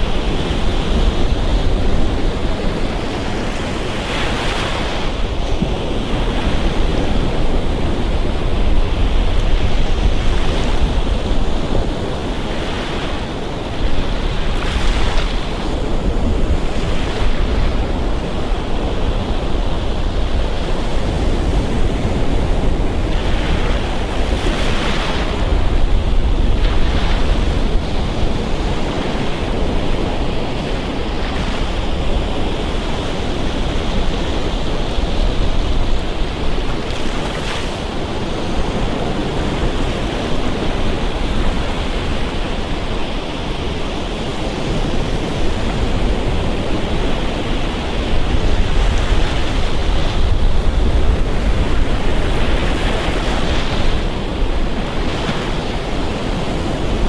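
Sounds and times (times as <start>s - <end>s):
waves breaking on a beach: 0.0s - 57.0s
wind rumble on microphone: 0.0s - 57.0s.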